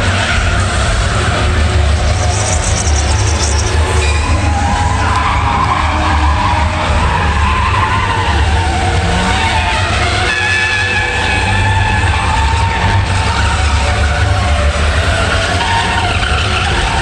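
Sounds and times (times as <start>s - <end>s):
high squealing tones: 0.3s - 17.0s.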